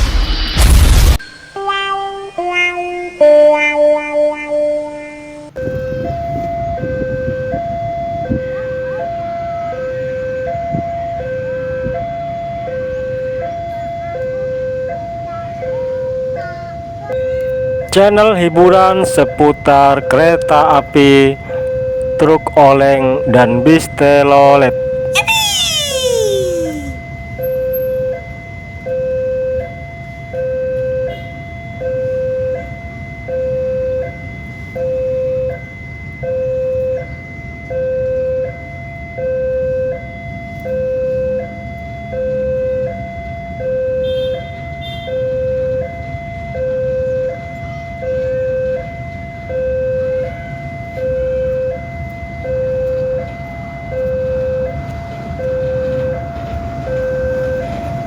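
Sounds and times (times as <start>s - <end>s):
two-tone hi-lo siren: 0.0s - 58.0s.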